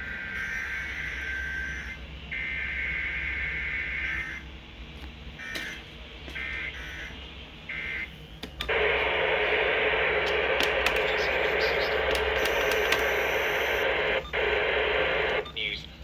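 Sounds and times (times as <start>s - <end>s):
digital data tones over radio: 0.0s - 4.5s, 5.4s - 8.1s, 8.7s - 16.0s
loud static noise: 0.0s - 16.0s.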